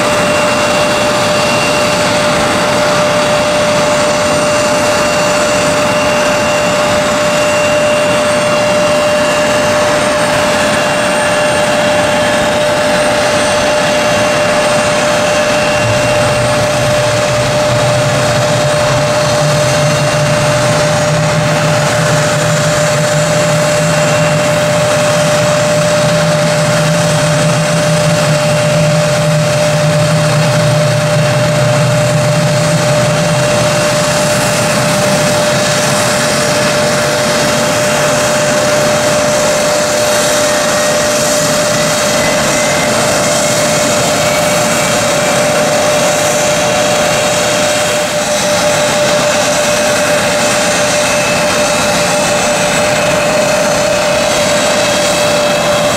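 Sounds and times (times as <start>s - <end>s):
faint rising whine: 0.0s - 55.9s
jet engines whining: 0.0s - 55.9s
low hum: 0.0s - 55.9s.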